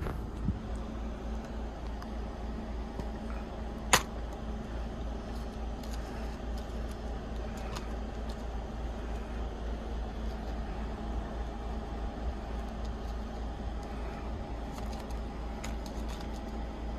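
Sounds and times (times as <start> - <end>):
low background hum: 0.0 - 16.9.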